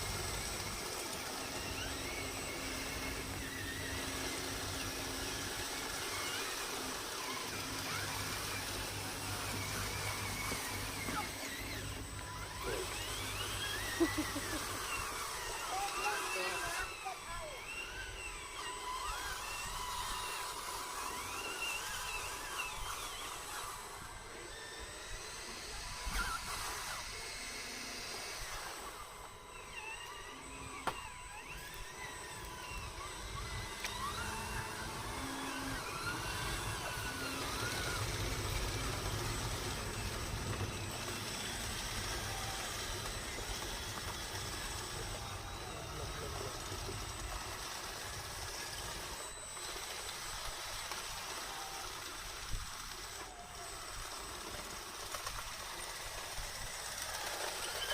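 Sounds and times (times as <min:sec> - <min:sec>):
small electric motors whining: 0:00.0 - 0:57.9.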